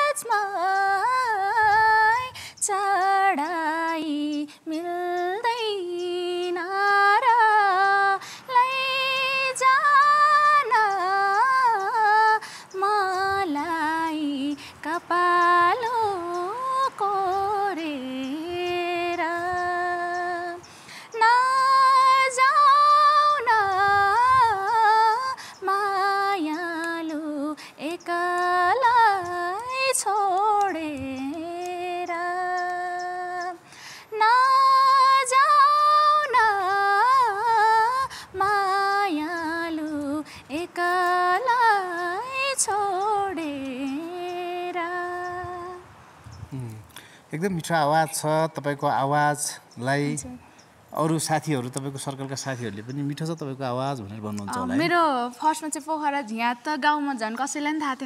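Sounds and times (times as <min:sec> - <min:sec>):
woman singing unaccompanied: 0:00.0 - 0:46.0, 0:50.1 - 0:50.6, 0:54.4 - 0:58.0.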